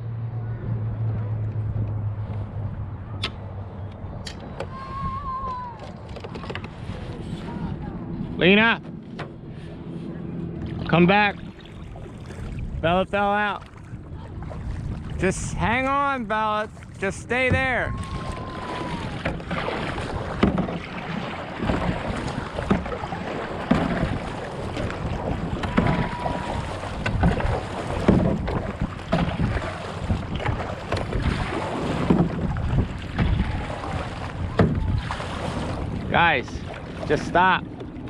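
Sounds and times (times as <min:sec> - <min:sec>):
wind buffeting microphone: 0:00.0 - 0:38.0
paddle splashing in water: 0:04.4 - 0:07.8, 0:09.1 - 0:38.0.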